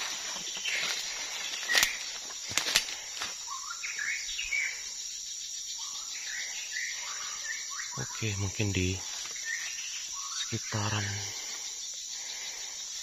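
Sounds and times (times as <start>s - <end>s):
birds singing: 0.0s - 13.0s
high insect drone: 0.0s - 13.0s.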